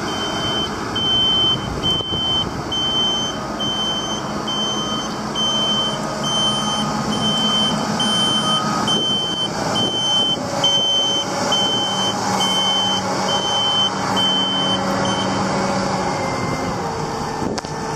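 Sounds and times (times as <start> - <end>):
high-pitched warning alarm beeping: 0.0 - 16.7
crane engine running: 0.0 - 17.9.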